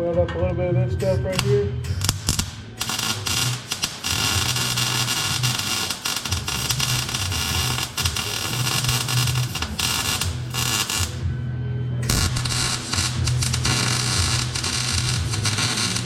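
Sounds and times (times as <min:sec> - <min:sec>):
welding arc crackling: 0:01.0 - 0:11.2, 0:12.0 - 0:16.0.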